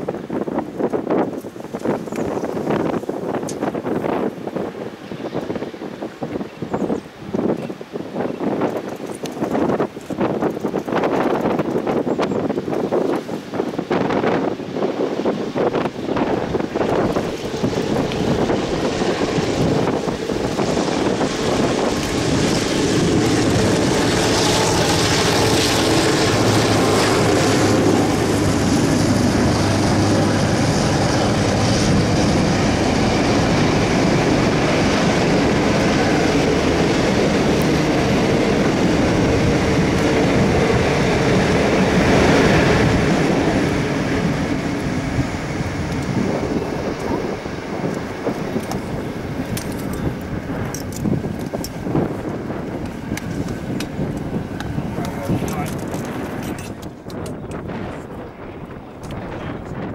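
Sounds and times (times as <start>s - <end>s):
diesel locomotive engines passing: 0.0s - 59.9s.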